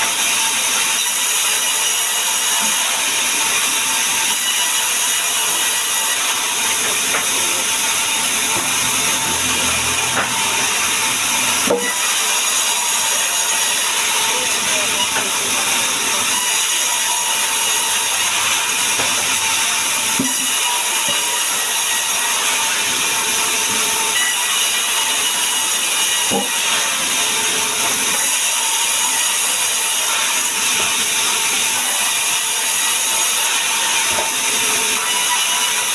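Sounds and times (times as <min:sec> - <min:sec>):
power saw cutting wood: 0:00.0 - 0:35.9.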